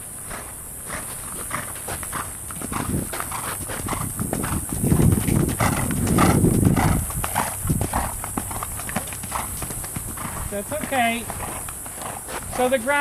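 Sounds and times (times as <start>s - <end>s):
horse hoofbeats on sand: 0.0s - 13.0s.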